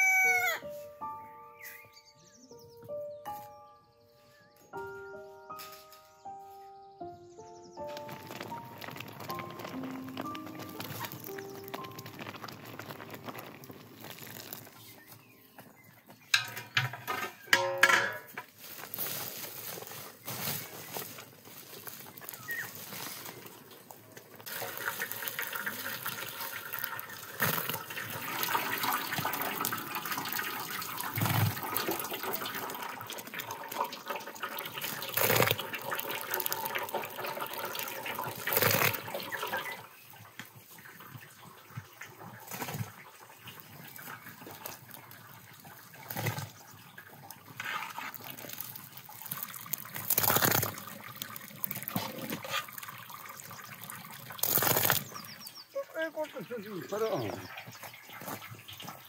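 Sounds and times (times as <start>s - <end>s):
water running and splashing: 7.8s - 59.0s.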